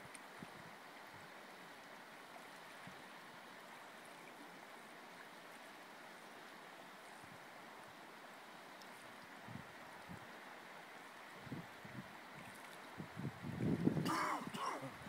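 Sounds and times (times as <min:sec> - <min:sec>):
river flowing over gravel: 0:00.0 - 0:15.0.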